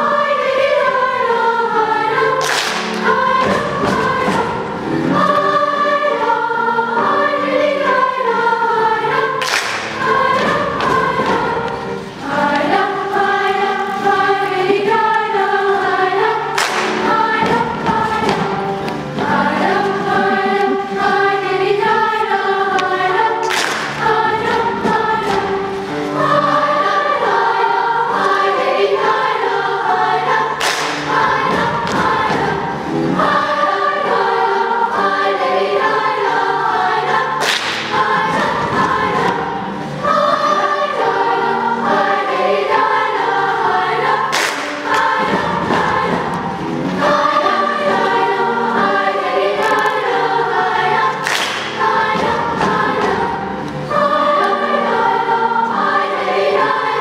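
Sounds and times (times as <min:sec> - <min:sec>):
children's choir singing: 0:00.0 - 0:57.0.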